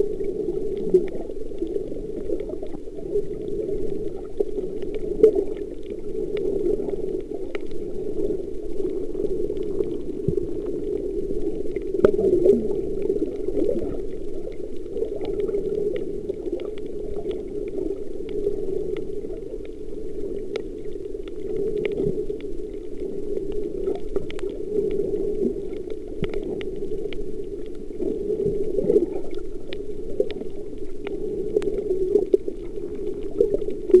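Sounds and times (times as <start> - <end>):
underwater rushing water: 0.0 - 34.0
faint clicks: 0.2 - 34.0.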